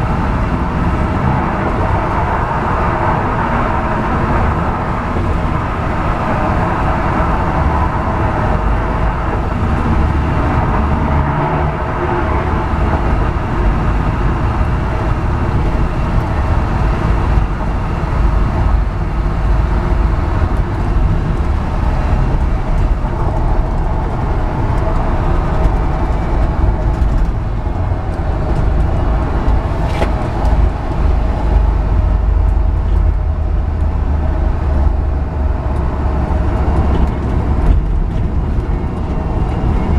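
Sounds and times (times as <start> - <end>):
engine drone: 0.0 - 39.9
road rumble: 0.0 - 39.9.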